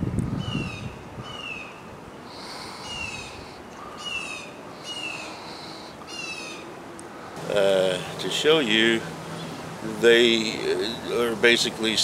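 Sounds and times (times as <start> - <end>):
bird calling: 0.4 - 11.6.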